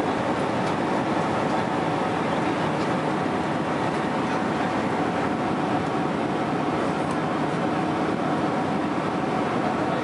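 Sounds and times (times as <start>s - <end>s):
airliner cabin engine rush: 0.0s - 10.0s.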